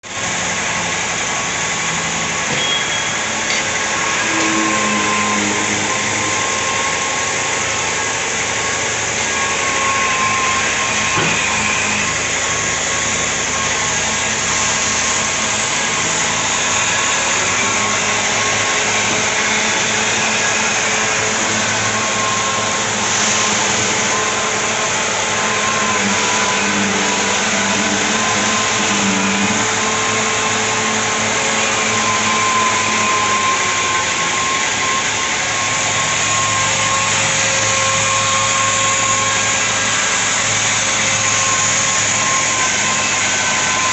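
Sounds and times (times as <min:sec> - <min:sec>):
power sander whine: 0:00.0 - 0:43.9.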